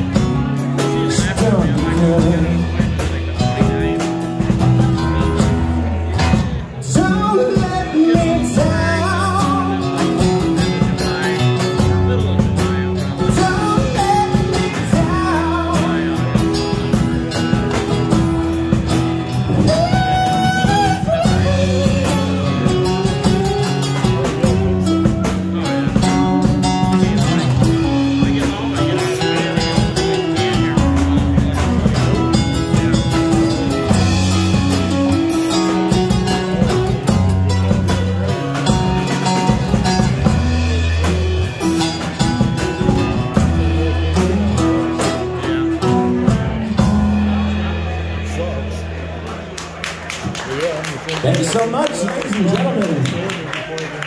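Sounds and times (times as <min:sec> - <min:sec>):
bending melody line: 0:00.0 - 0:49.1
electric bass: 0:00.0 - 0:53.6
acoustic guitar: 0:00.0 - 0:53.7
drum kit: 0:00.0 - 0:54.0.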